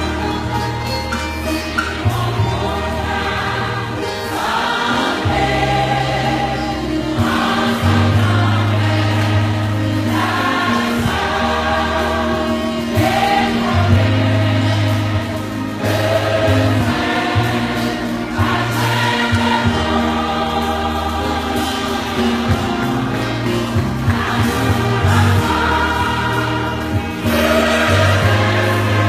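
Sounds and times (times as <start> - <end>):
band accompaniment: 0.0 - 29.0
bass holding long notes: 0.0 - 29.0
congregation and choir singing: 0.0 - 29.0.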